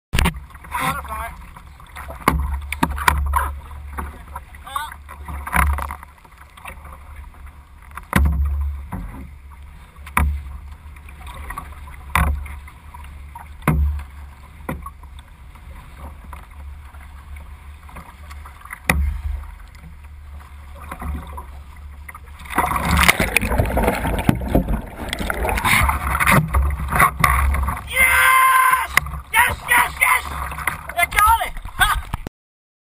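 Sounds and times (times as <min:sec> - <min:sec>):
underwater rush and bubbling: 0:00.2 - 0:32.3
water slapping against kayak hull: 0:00.2 - 0:32.3.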